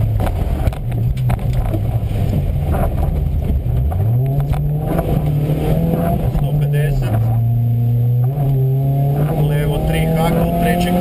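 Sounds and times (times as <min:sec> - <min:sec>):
car engine revving: 0:00.0 - 0:11.0
road noise: 0:00.0 - 0:11.0.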